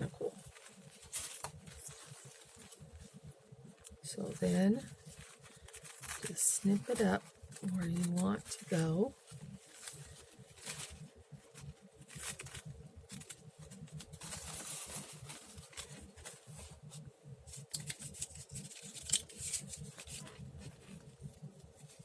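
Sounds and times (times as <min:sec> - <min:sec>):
paper rustling: 0:00.0 - 0:03.2, 0:03.8 - 0:22.0.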